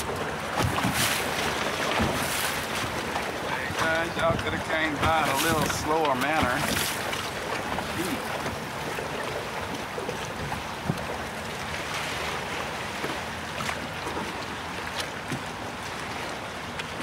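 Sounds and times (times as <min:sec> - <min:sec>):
water sloshing and slapping: 0:00.0 - 0:17.0.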